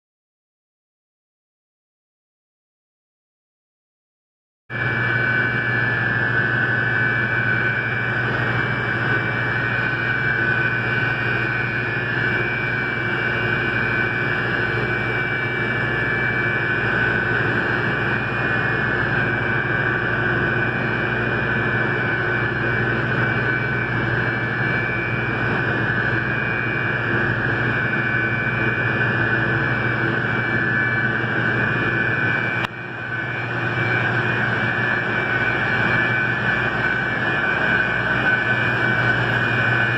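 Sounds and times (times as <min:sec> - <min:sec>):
high compressor whine: 0:04.7 - 0:39.9
water chiller drone: 0:04.7 - 0:39.9.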